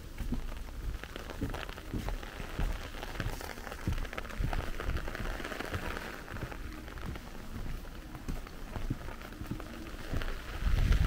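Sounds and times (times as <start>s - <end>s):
footsteps on wet path: 0.0s - 11.0s
raindrops ticking close by: 0.0s - 11.0s
steady rain falling: 0.0s - 11.0s.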